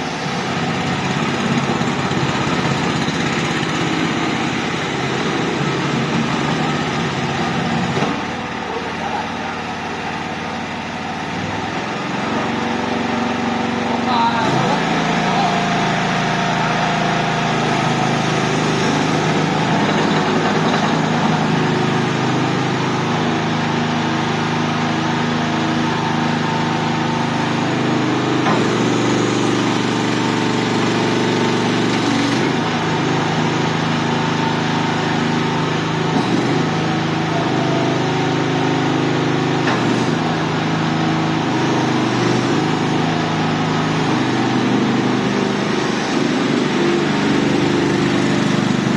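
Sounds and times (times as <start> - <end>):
small loader engine running: 0.0 - 48.9.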